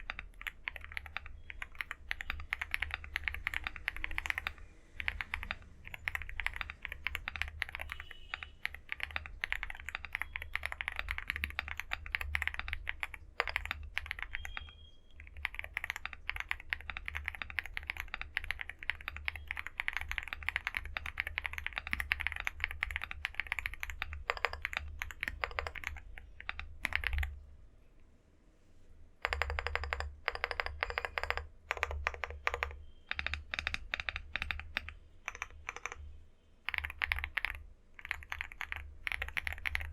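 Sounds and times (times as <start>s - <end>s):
mechanical keyboard typing: 0.0s - 27.4s, 29.2s - 39.9s.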